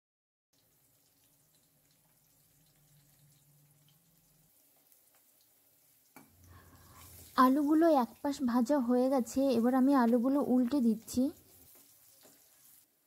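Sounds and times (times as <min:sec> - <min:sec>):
potatoes sizzling in oil: 0:00.6 - 0:13.0.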